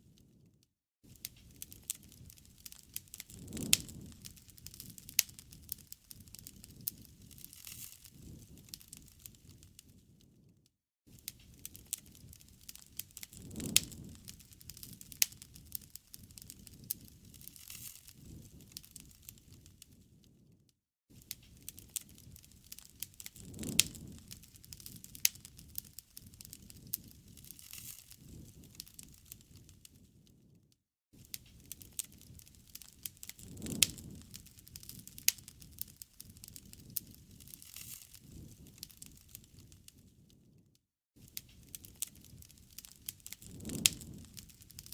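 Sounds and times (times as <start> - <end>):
low rumble of flames: 0.0 - 30.6, 31.2 - 40.6, 41.2 - 44.9
wood fire crackling: 1.0 - 30.6, 31.2 - 40.6, 41.2 - 44.9.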